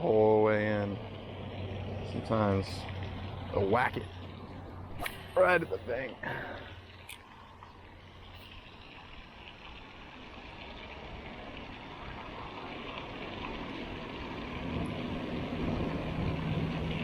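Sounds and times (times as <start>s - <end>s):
motor vehicle approaching: 0.0s - 9.0s, 10.5s - 17.0s
low steady hum: 0.0s - 17.0s.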